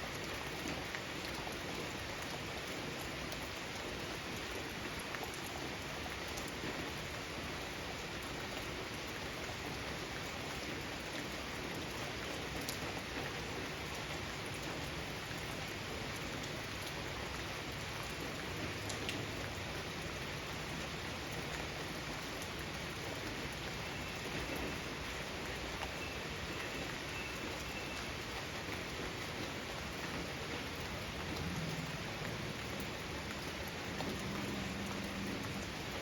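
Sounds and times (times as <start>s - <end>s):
raindrops pattering on surfaces: 0.0s - 36.0s
steady rain hiss: 0.0s - 36.0s.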